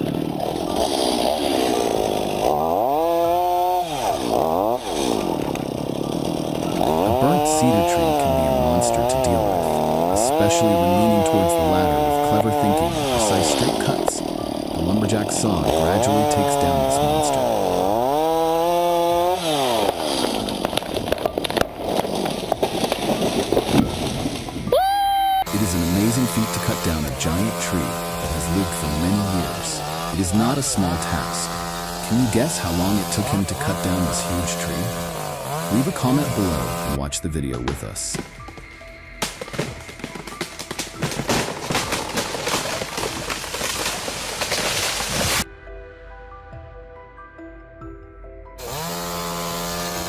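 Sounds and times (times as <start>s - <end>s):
chainsaw cutting wood: 0.0s - 24.7s, 25.5s - 45.5s, 48.6s - 50.0s
wood cracking and crackling: 0.0s - 24.8s, 25.5s - 37.0s, 37.6s - 45.5s.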